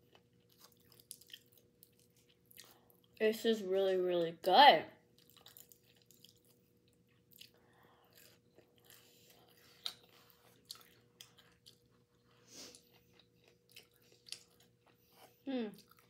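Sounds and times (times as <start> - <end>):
person chewing with wet clicks: 0.0 - 3.2, 5.1 - 16.0.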